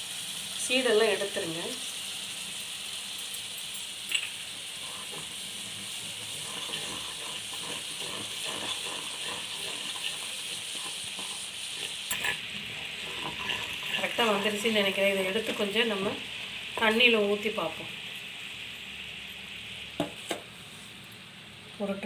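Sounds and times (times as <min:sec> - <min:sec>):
syrup bubbling in a pan: 0:01.4 - 0:21.6.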